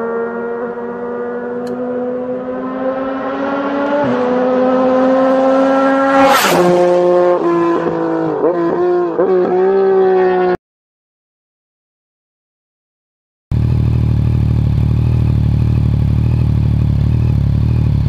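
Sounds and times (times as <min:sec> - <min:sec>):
motorcycle engine revving: 0:00.0 - 0:10.6, 0:13.5 - 0:18.0.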